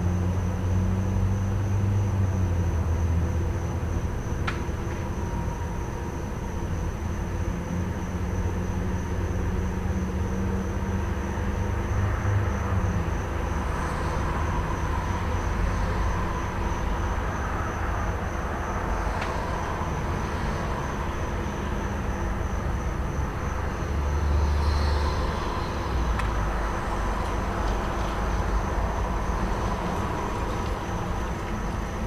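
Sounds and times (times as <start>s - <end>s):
crickets trilling: 0.0s - 32.0s
road traffic: 0.0s - 32.0s.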